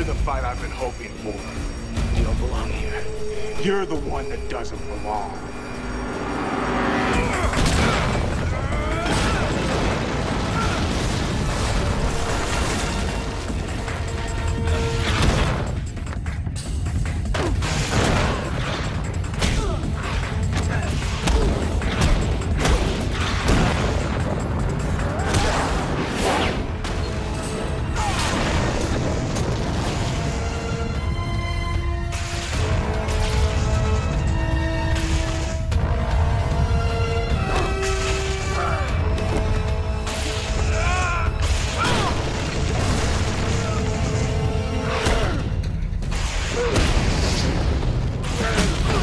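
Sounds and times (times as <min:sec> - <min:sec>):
action film fight soundtrack: 0:00.0 - 0:49.0
dramatic score music: 0:00.0 - 0:49.0.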